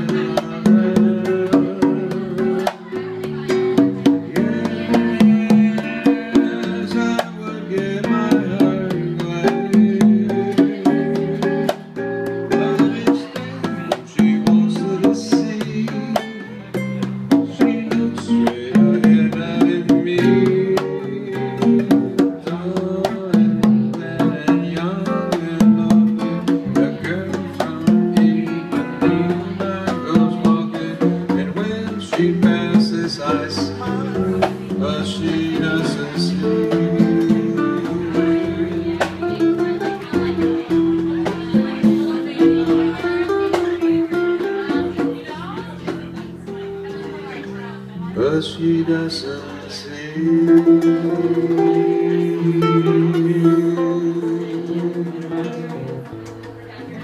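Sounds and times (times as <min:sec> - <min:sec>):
acoustic guitar: 0:00.0 - 0:57.0
congas: 0:00.0 - 0:57.0
electric bass: 0:00.0 - 0:57.0.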